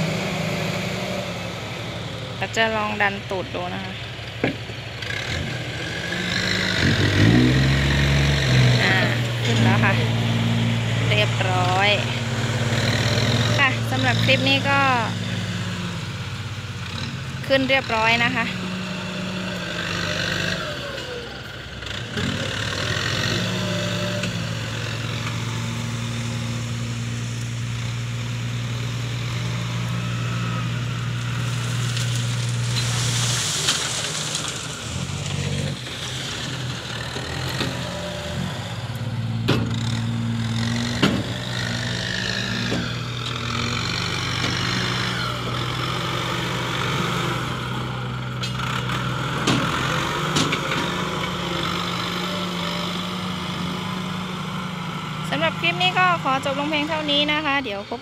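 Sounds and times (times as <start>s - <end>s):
tractor diesel engine running: 0.0s - 58.0s
blade pushing soil: 4.6s - 15.8s, 22.0s - 57.5s.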